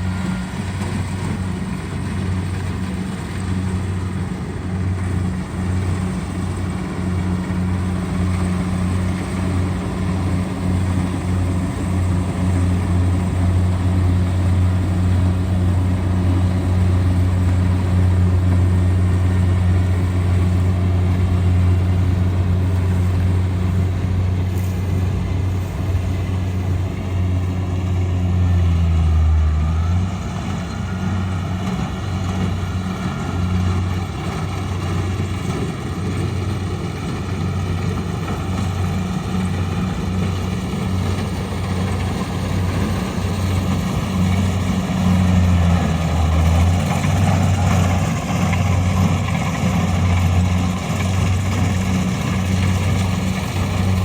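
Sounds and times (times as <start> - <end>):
combine harvester engine humming: 0.0 - 54.0.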